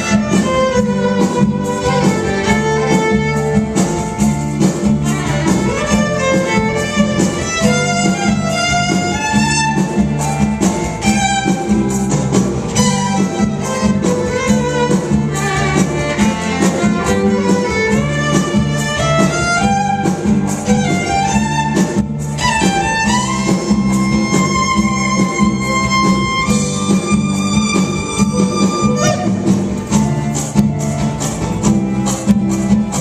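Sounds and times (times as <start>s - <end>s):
fiddle playing quick runs: 0.0s - 33.0s
rhythmic backing music: 0.0s - 33.0s.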